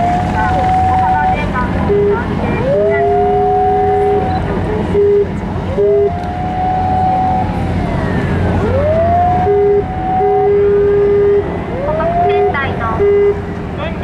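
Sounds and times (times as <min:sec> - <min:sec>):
boat siren winding up: 0:00.0 - 0:13.4
low steady horn blasts: 0:00.0 - 0:13.8
engine and wind rumble: 0:00.0 - 0:14.0.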